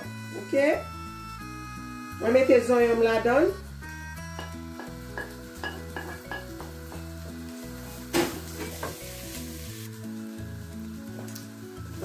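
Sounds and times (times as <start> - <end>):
background music: 0.0 - 12.0
onions sizzling in hot oil: 0.2 - 12.0.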